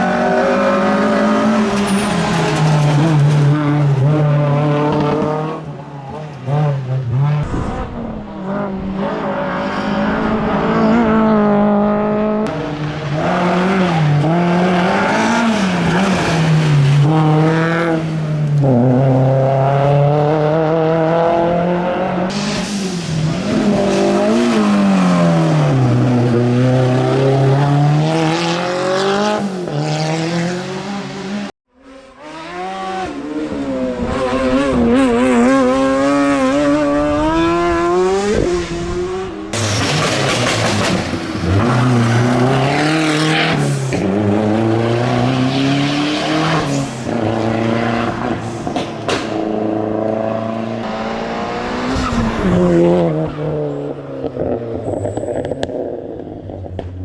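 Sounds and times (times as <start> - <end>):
race car engine revving: 0.0 - 56.8.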